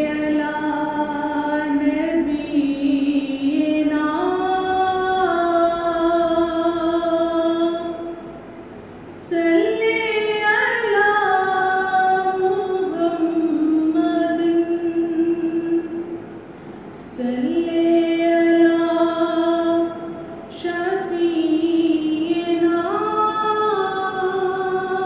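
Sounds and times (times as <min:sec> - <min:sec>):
woman singing unaccompanied: 0:00.0 - 0:08.3, 0:09.1 - 0:16.2, 0:17.0 - 0:25.0.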